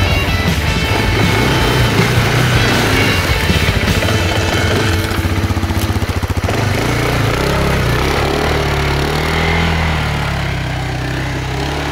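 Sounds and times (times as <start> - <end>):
quad engine running: 0.0 - 11.9.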